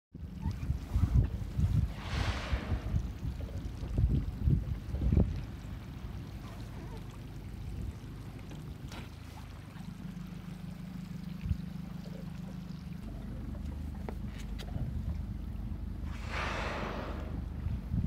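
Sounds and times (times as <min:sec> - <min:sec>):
small boat engine rumble: 0:00.2 - 0:18.0.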